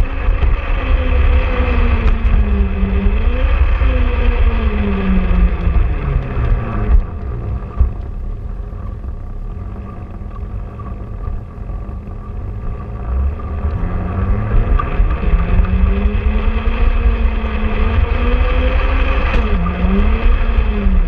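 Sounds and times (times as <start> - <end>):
wheels rumbling on track: 0.0 - 21.0.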